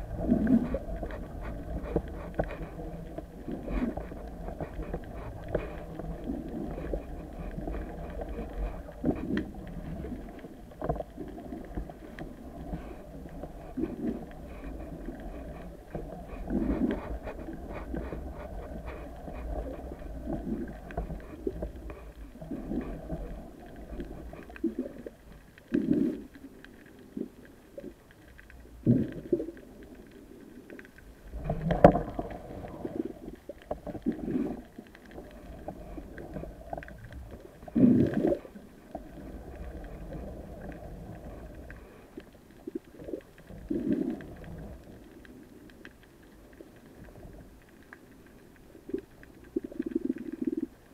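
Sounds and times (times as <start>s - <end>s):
muffled underwater rumble: 0.0s - 50.9s.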